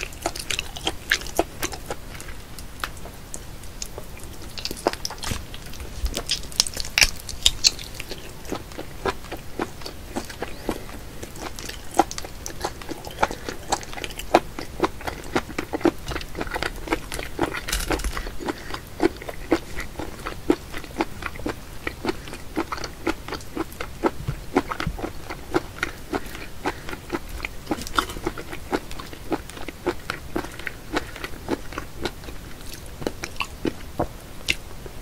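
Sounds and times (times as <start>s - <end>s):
mouth chewing with sharp clicks: 0.0s - 35.0s.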